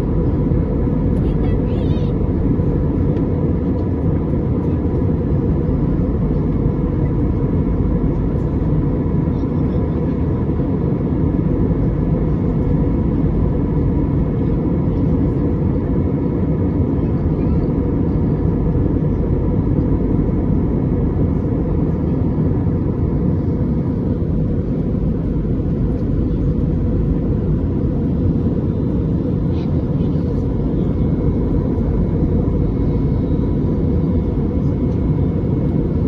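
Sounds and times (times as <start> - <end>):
faint high hum: 0.0 - 36.0.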